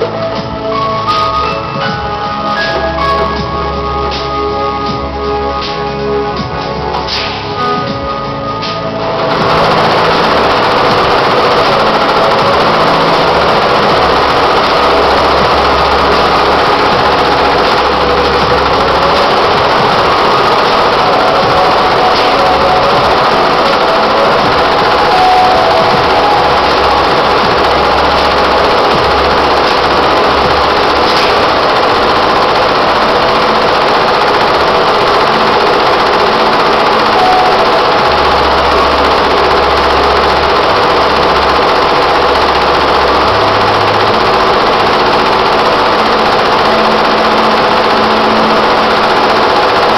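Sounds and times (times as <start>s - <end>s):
background music: 0.0s - 49.9s
embroidery machine stitching: 8.6s - 49.9s.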